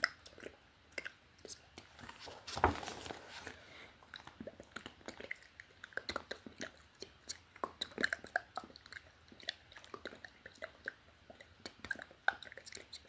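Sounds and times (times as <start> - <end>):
wet lip and tongue clicks: 0.0 - 1.9, 4.1 - 13.0.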